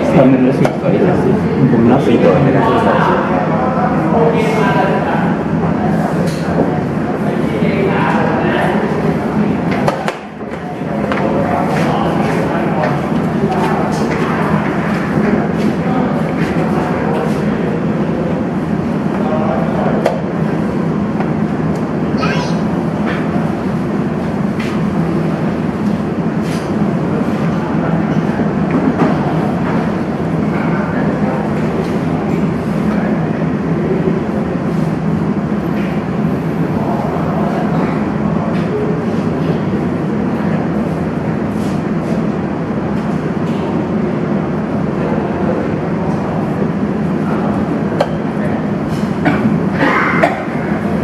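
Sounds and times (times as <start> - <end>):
loud rumbling background noise: 0.0 - 51.0.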